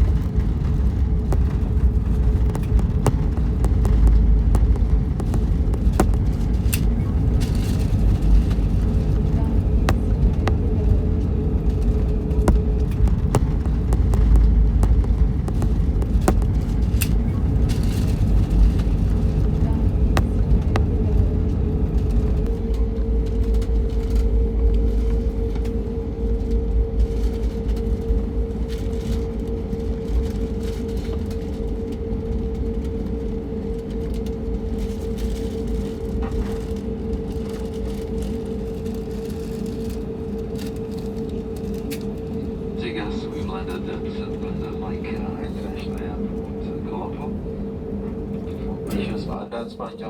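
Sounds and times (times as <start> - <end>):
airliner cabin rumble: 0.0 - 50.0.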